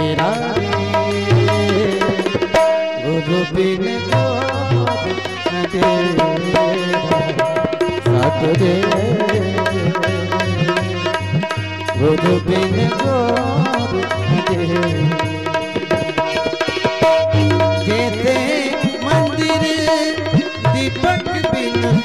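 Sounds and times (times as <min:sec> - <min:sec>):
sustained melodic accompaniment: 0:00.0 - 0:22.0
tabla playing rhythm: 0:00.0 - 0:22.0.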